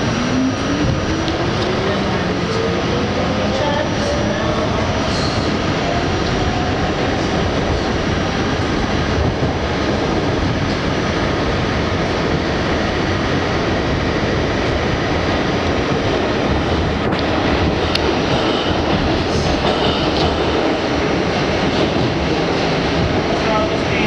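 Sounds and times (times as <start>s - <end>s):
subway car wheels rumbling: 0.0s - 24.0s.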